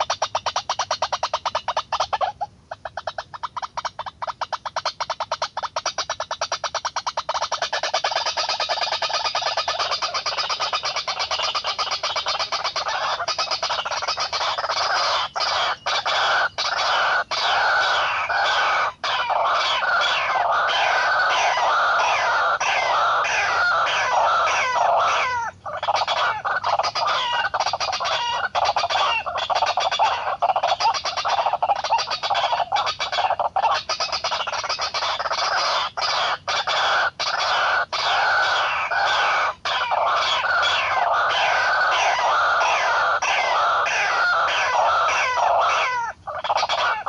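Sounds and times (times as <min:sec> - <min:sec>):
waterhens harsh clucking calls: 0:00.0 - 0:47.0.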